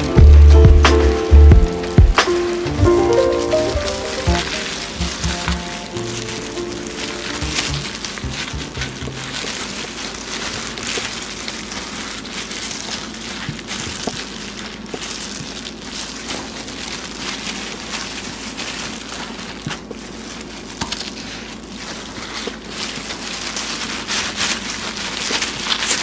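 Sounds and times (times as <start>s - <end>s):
bamboo rolling mat rustling: 0.0s - 26.0s
plastic gloves crinkling: 0.0s - 26.0s.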